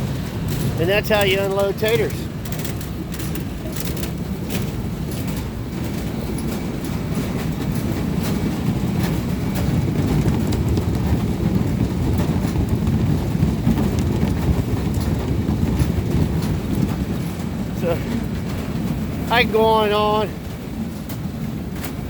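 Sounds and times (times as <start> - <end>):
conveyor equipment rumbling: 0.0 - 22.0.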